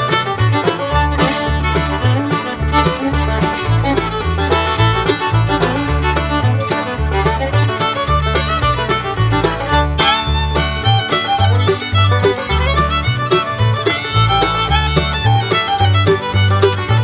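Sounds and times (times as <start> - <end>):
bouncing bass line: 0.0 - 17.0
fiddle-led bluegrass music: 0.0 - 17.0.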